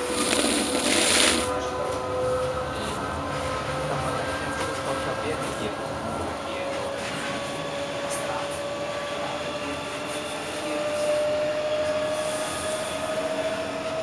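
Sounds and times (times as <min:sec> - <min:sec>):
tram motor whine: 0:00.0 - 0:14.0
tram rolling on rails: 0:00.0 - 0:14.0.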